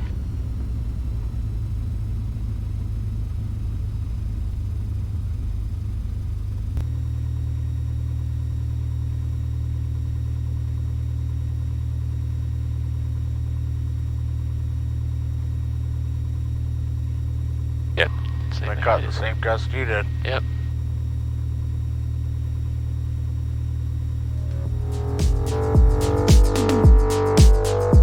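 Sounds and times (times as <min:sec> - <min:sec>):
aircraft engine droning in cabin: 0:00.0 - 0:25.7.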